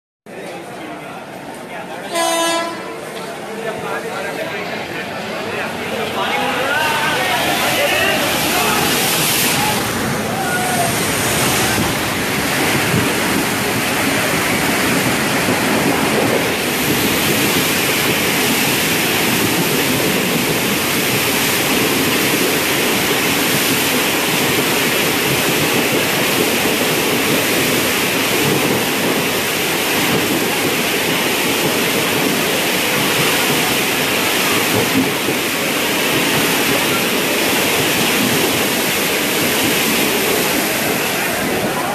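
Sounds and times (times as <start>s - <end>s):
train rushing through floodwater: 0.3s - 41.9s.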